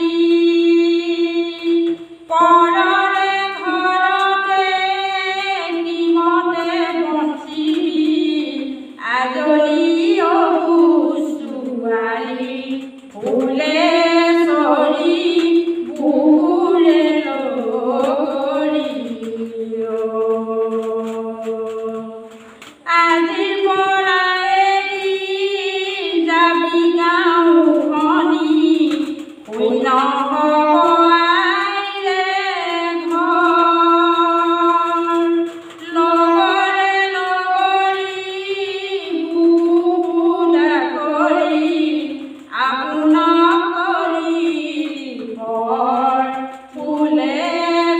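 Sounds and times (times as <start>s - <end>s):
woman singing unaccompanied: 0.0s - 47.9s.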